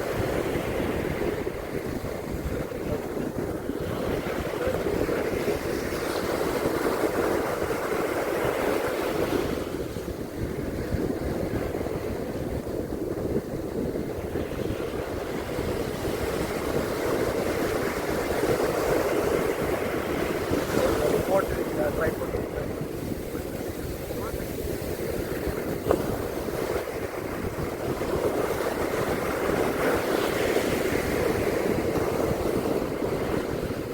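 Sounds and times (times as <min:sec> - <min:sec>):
waves breaking on beach: 0:00.0 - 0:33.9
wind buffeting microphone: 0:00.0 - 0:33.9.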